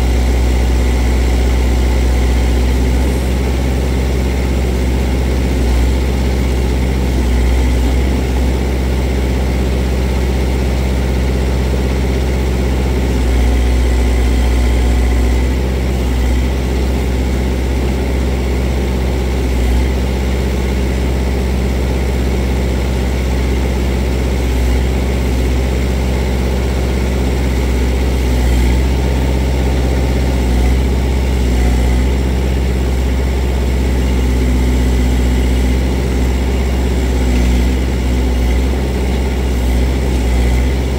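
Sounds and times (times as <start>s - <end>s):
diesel engine running loud: 0.0s - 40.9s.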